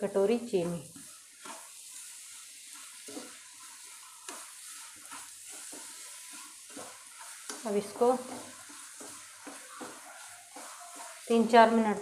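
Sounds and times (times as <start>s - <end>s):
halwa sizzling in a pan: 0.0s - 12.0s
spatula scraping a pan: 0.3s - 12.0s.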